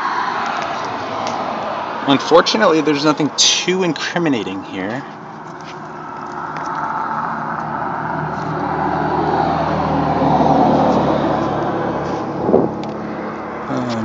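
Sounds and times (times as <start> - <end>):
car driving past: 0.0 - 3.4, 5.2 - 14.0.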